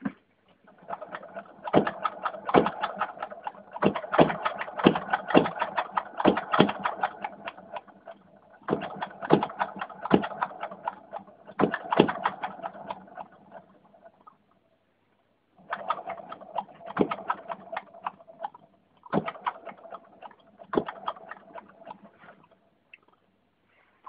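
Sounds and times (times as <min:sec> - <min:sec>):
gas engine clicking and popping: 0:00.0 - 0:14.6, 0:15.6 - 0:23.3.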